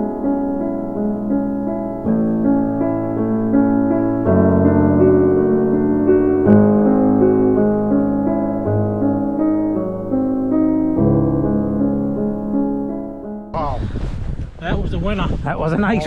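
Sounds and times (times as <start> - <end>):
soft piano music: 0.0 - 13.6.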